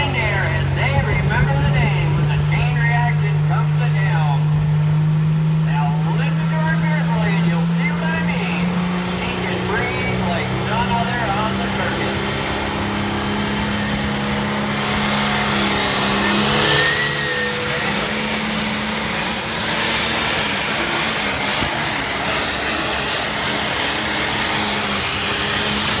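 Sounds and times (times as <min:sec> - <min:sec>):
diesel tractor engine pulling hard: 0:00.0 - 0:26.0
turbo whine: 0:00.0 - 0:26.0.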